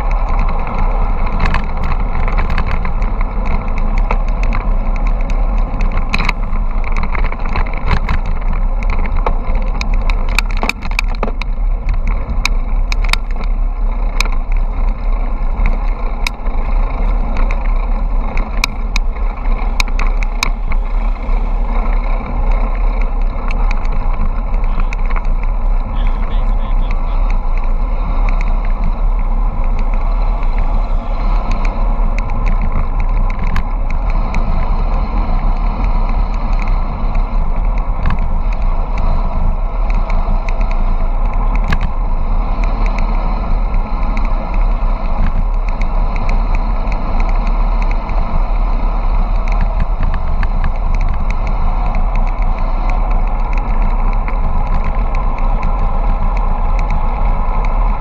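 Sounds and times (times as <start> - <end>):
road noise: 0.0 - 58.0
sharp clicks and knocks: 0.0 - 58.0
wind buffeting microphone: 0.0 - 58.0.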